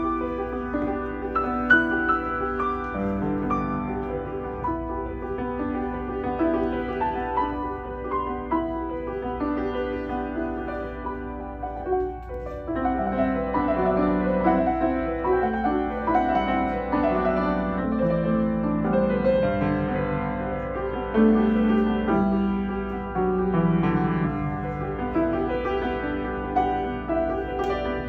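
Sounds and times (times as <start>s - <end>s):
grand piano playing: 0.0s - 28.0s.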